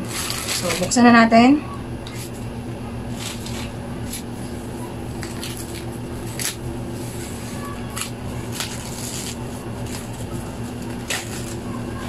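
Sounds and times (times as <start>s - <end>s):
foam packing wrap crackling: 0.0s - 1.0s, 3.1s - 12.0s
low background hum: 0.0s - 12.0s.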